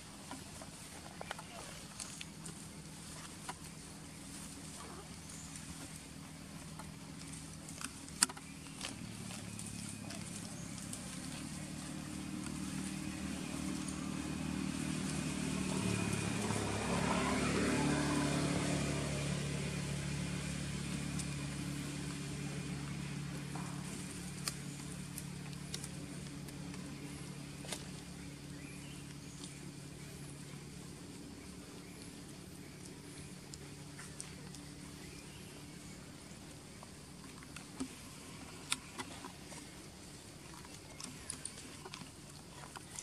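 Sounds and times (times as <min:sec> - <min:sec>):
vehicle engine passing by: 0:00.3 - 0:39.8.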